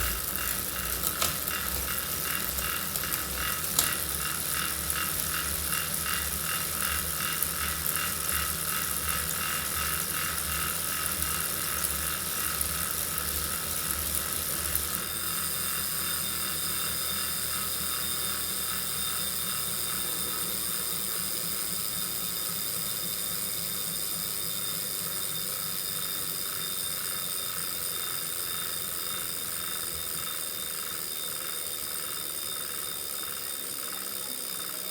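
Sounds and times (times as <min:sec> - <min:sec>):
rhythmic clicking: 0:00.0 - 0:21.7, 0:26.1 - 0:34.9
bike trainer whine: 0:00.0 - 0:34.9.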